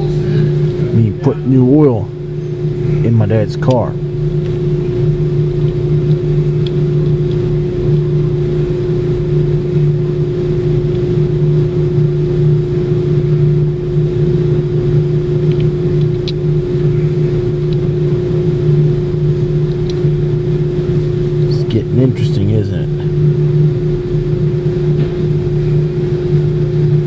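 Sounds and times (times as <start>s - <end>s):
mechanical hum: 0.0s - 27.0s.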